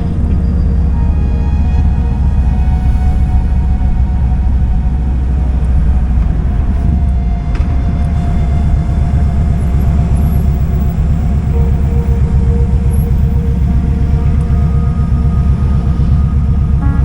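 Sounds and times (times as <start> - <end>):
motorcycle engine pulsing rumble: 0.0 - 17.0.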